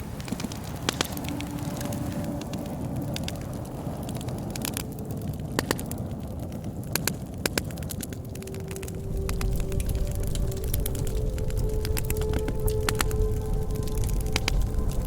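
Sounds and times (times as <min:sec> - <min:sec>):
fire crackles and pops: 0:00.0 - 0:15.0
wood fire burning: 0:00.0 - 0:15.0.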